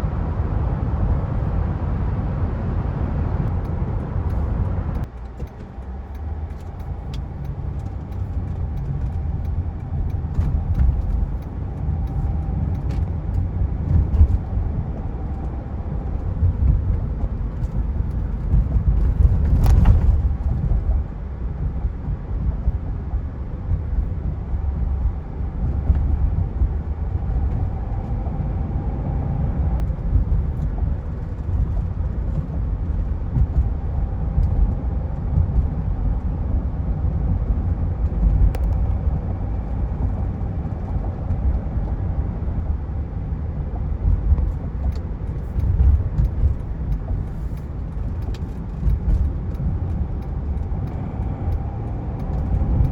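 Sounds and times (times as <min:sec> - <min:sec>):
low engine rumble: 0:00.0 - 0:52.9
road noise: 0:00.0 - 0:52.9.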